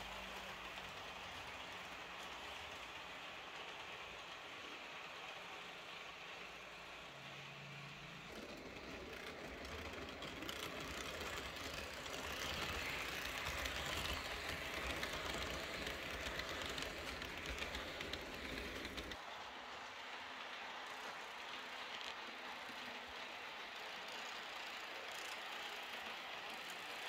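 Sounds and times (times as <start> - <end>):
model train motors rumbling: 0.0 - 27.0
model train wheels clattering on rails: 0.0 - 27.0.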